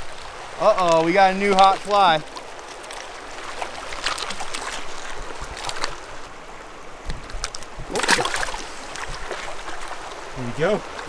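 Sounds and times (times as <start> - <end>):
creek flowing: 0.0 - 11.0
fish splashing in water: 0.0 - 11.0.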